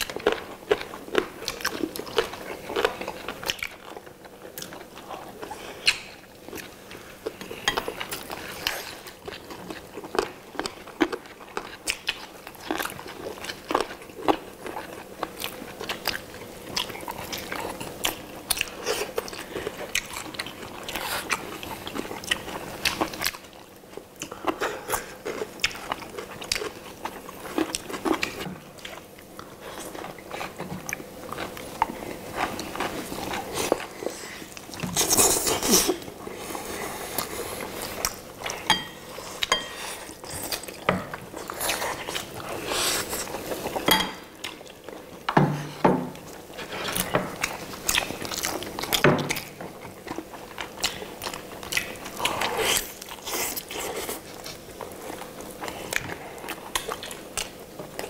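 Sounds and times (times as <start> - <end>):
people biting and chewing: 0.0 - 58.0.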